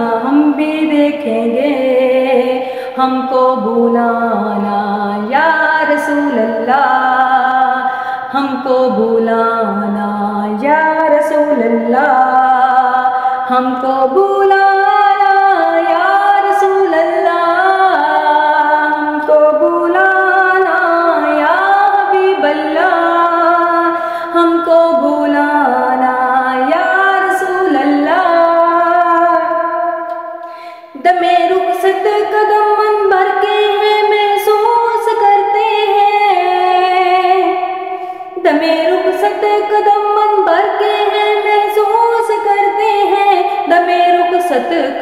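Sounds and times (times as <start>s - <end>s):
woman singing unaccompanied: 0.0s - 45.0s.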